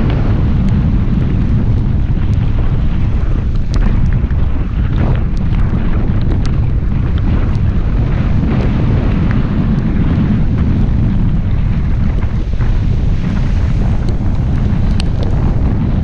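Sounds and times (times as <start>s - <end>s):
raindrops ticking on camera: 0.0s - 16.0s
wind buffeting microphone: 0.0s - 16.0s.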